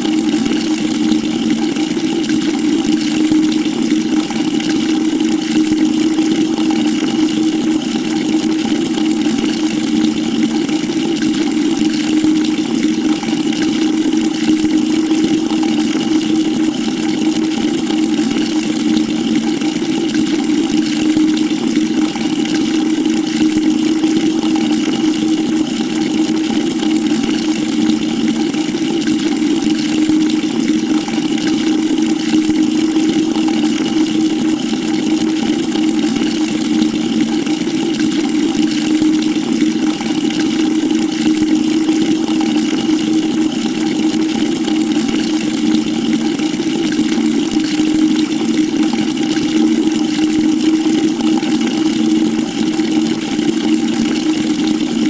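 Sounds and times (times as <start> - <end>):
water pouring into a bucket: 0.0 - 55.0.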